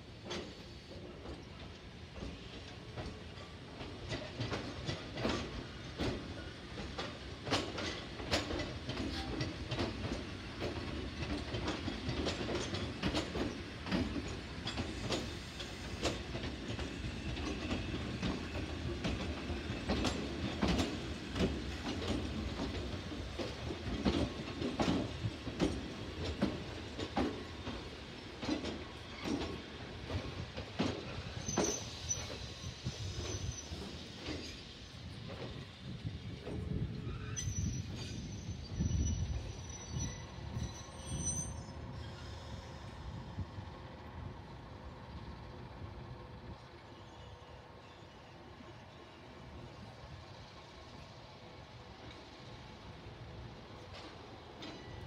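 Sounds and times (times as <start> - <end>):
train wheels clacking over rail joints: 0.0 - 43.2, 52.0 - 55.0
low train rumble: 0.0 - 55.0.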